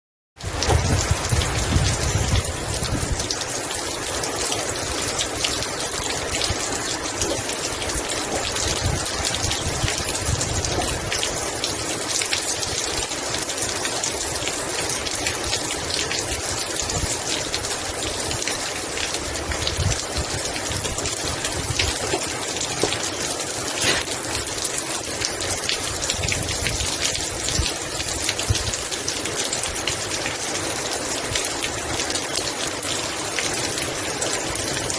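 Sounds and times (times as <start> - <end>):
heavy rain: 0.4 - 34.9
raindrops hitting close by: 0.4 - 34.9.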